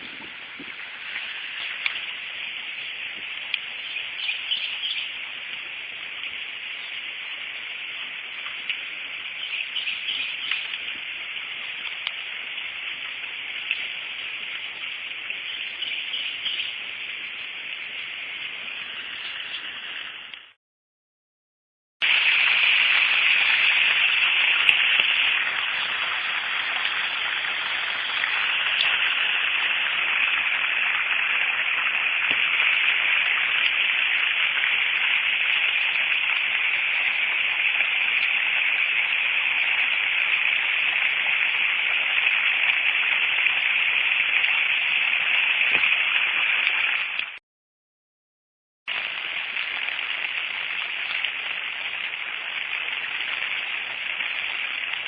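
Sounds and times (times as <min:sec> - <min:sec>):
water hissing: 0:00.0 - 0:20.6, 0:22.0 - 0:47.4.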